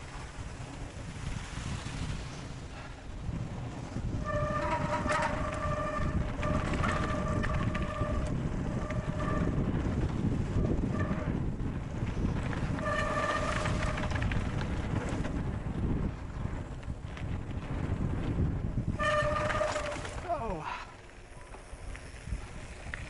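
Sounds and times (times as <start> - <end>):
bike tyre rumble with knocks: 0.0 - 23.0
high steady whine from bike: 0.0 - 23.0
wind buffeting microphone: 0.0 - 23.0.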